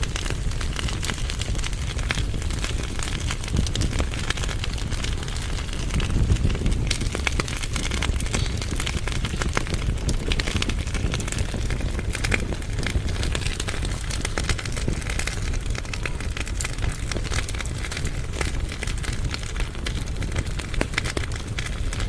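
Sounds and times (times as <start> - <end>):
fire crackling and popping: 0.0 - 22.0
low fire rumble: 0.0 - 22.0.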